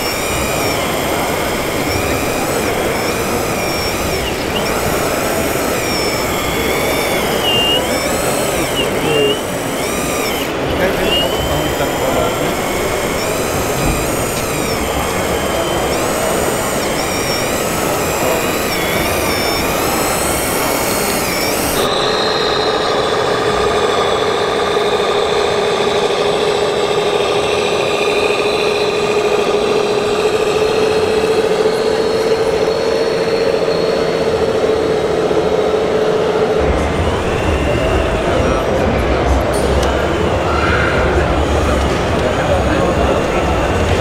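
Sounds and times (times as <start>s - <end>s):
hydraulic pump and motors whining: 0.0s - 44.0s
steady mechanical drone: 0.0s - 44.0s.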